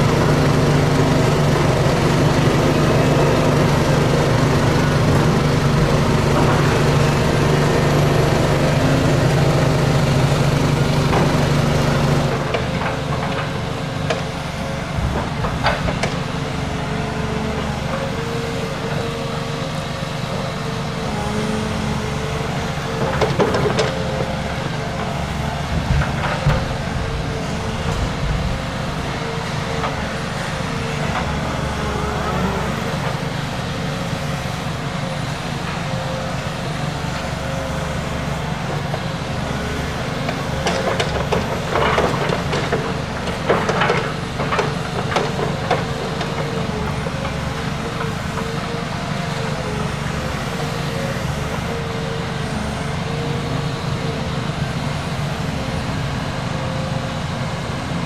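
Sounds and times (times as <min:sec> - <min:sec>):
diesel excavator engine running: 0:00.0 - 0:58.0.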